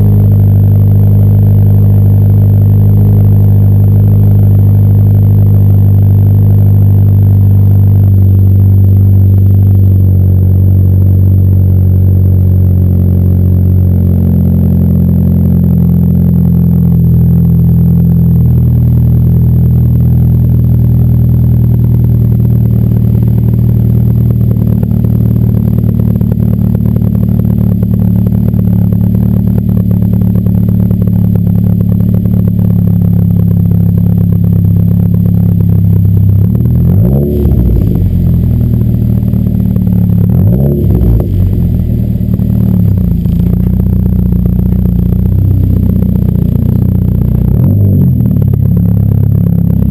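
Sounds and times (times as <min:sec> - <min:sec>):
car exhaust drone: 0:00.0 - 0:49.9.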